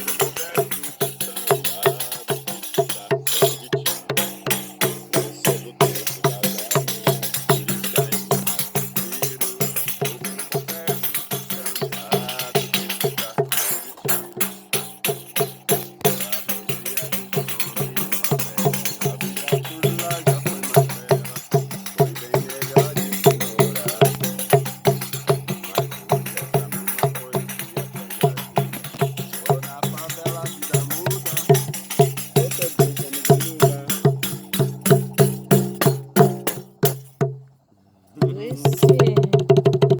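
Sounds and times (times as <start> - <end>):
fast percussion beat: 0.0 - 37.4, 38.2 - 39.9.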